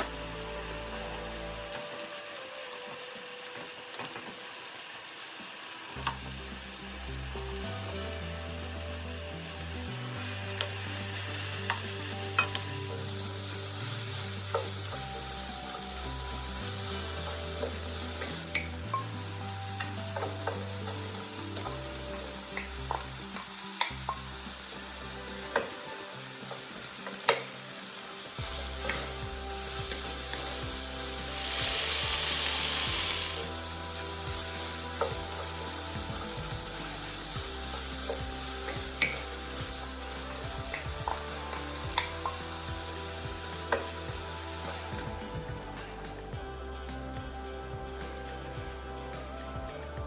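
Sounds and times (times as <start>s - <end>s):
food sizzling in oil: 0.0s - 49.8s
loud hiss: 0.0s - 50.0s.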